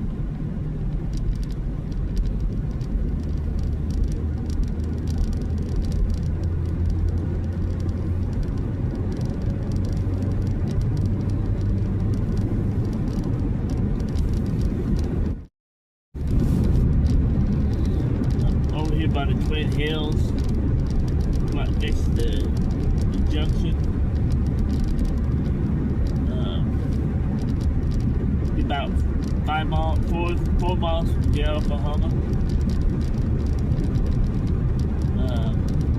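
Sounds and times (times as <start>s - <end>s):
car driving on wet road: 0.0s - 15.5s, 16.2s - 35.9s.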